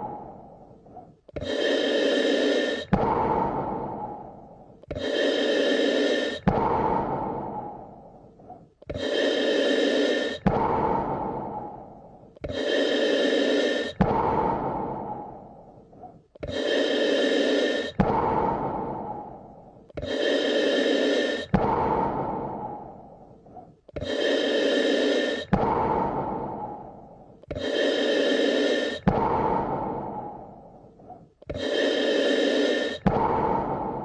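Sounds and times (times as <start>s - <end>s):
slow human breathing: 0.0s - 34.0s.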